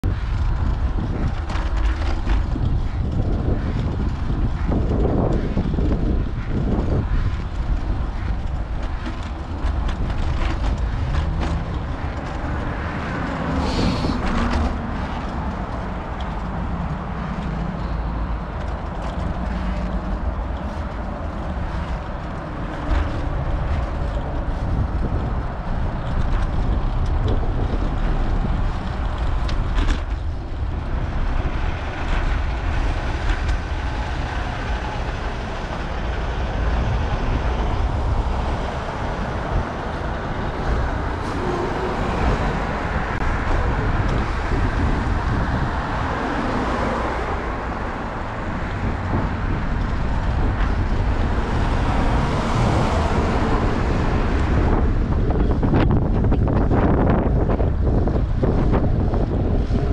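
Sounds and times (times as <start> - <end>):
bicycle tyre and road noise: 0.0 - 59.9
motor traffic passing: 0.0 - 59.9
wind rumbling on microphone: 0.0 - 59.9.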